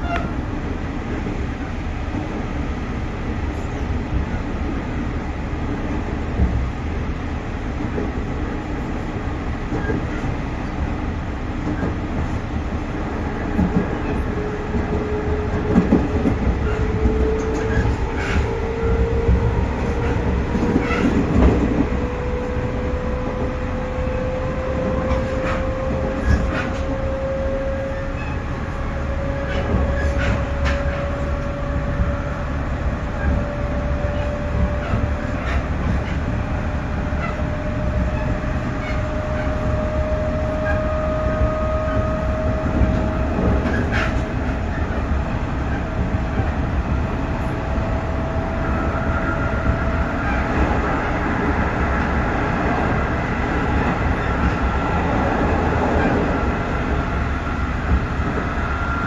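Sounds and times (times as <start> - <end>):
train wheels rumbling on rail: 0.0 - 59.0
rail-joint clicks: 7.8 - 59.0
train motor whine: 11.6 - 59.0.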